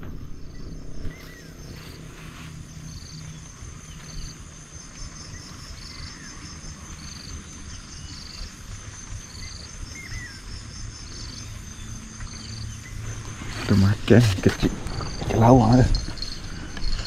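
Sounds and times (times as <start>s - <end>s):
higher insect chirps: 0.0s - 17.0s
insect buzzing chirp: 0.0s - 17.0s
insects droning: 0.0s - 17.0s
low rumble and hiss: 0.0s - 17.0s.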